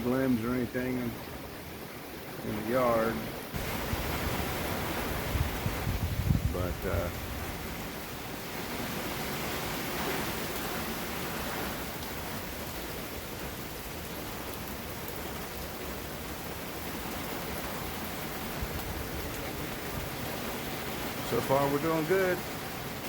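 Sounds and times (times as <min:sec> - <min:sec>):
heavy rain and wind hiss: 0:00.0 - 0:23.0.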